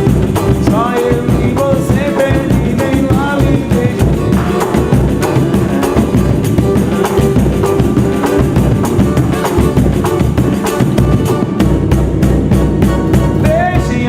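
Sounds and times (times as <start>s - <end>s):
bass: 0.0s - 14.0s
percussion beat: 0.0s - 14.0s.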